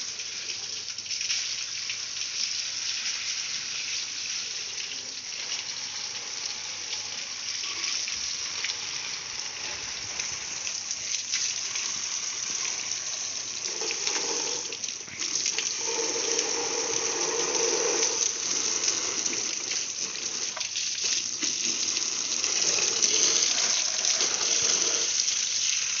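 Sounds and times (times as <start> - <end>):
water jet spraying motorcycle: 0.0 - 26.0.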